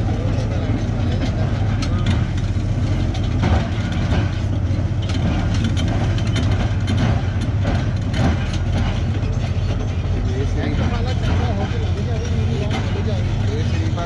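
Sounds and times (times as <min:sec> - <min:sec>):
bulldozer diesel engine running: 0:00.0 - 0:14.0
sharp clanks and cracks: 0:00.8 - 0:13.5.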